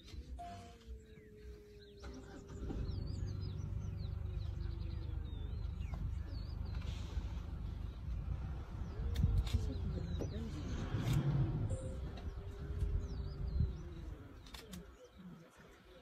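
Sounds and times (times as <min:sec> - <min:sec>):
birds chirping: 0:00.0 - 0:16.0
vehicle engine rumble: 0:00.0 - 0:16.0.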